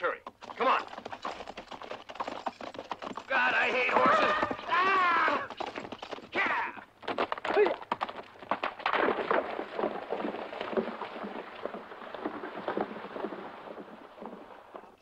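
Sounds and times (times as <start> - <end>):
horses galloping hoofbeats: 0.0 - 15.0.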